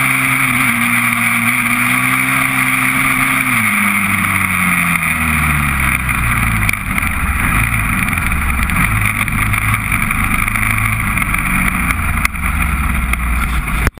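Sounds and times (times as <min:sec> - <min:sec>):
quad bike engine running: 0:00.0 - 0:14.0.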